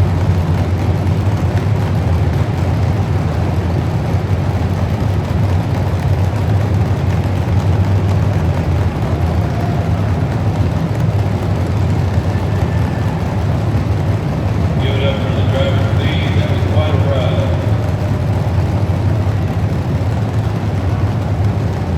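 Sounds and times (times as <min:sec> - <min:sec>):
truck engine running: 0:00.0 - 0:21.9.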